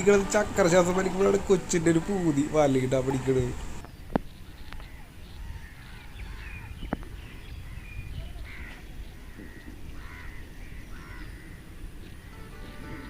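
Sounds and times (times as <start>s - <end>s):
birds harsh calls: 0.0s - 13.0s.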